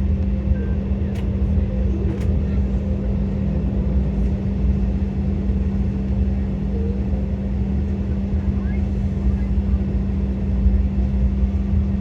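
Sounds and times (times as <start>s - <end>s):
jet engines idling hum: 0.0s - 12.0s.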